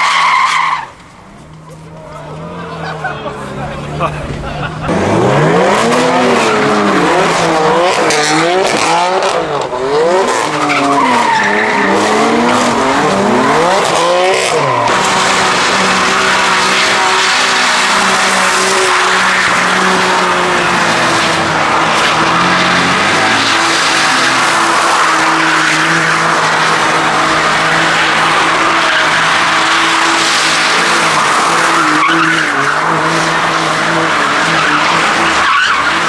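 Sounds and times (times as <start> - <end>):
tyres screeching: 0.0 - 12.8, 13.5 - 36.0
car engine revving: 0.0 - 36.0.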